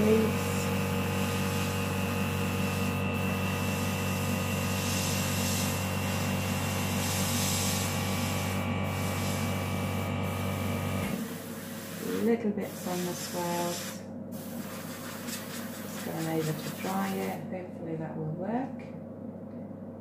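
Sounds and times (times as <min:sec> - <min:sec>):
airbrush spray hiss: 0:00.0 - 0:17.3
compressor humming: 0:00.0 - 0:17.7.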